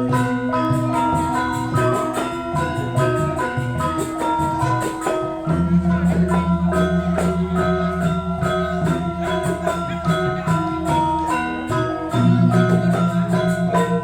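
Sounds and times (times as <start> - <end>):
metallophones interlocking notes: 0.0 - 14.0
deep gong ringing: 2.8 - 14.0.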